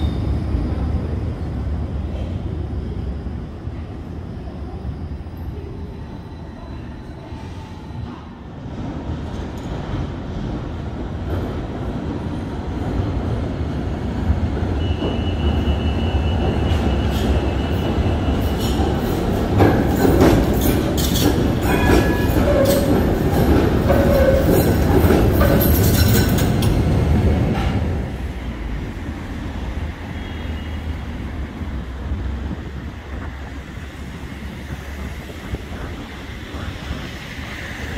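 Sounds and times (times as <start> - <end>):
tram rumbling: 0.0 - 37.9.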